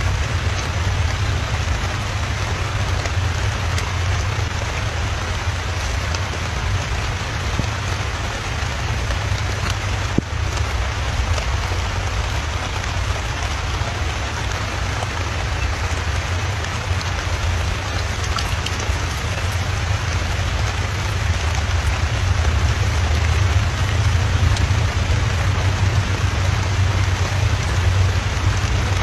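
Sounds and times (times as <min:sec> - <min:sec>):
raindrop ticks: 0:00.0 - 0:29.0
steady rain hiss: 0:00.0 - 0:29.0.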